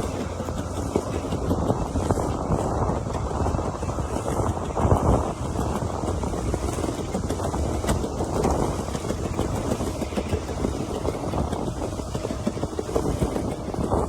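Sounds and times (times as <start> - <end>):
vehicle rumble: 0.0 - 14.0
wind noise on microphone: 0.0 - 14.0.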